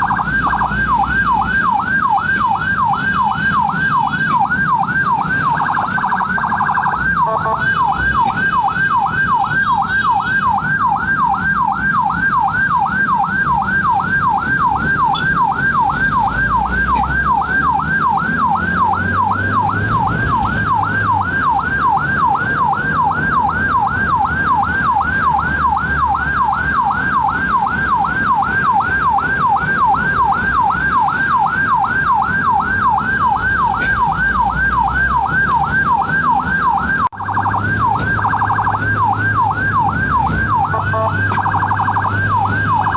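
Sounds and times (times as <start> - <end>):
ambulance siren yelping: 0.0 - 42.9
vehicle rumble: 0.0 - 42.9.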